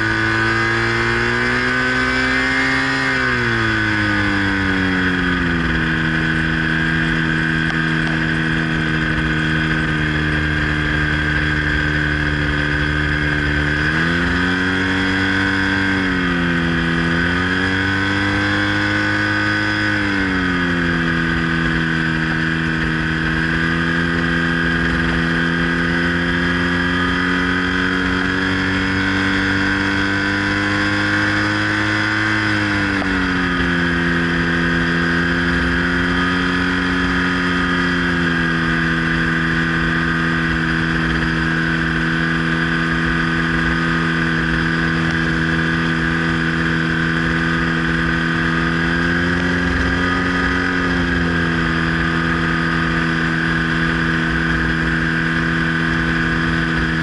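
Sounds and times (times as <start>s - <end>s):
engine and propeller running: 0.0s - 57.0s.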